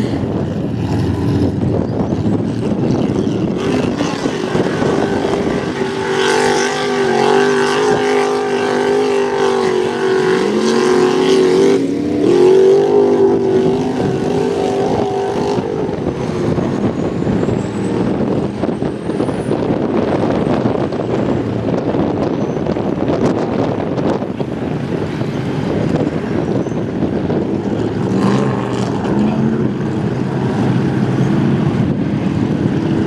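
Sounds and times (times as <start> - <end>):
noisy rush: 0.0 - 33.0
truck engine revving: 0.0 - 33.0.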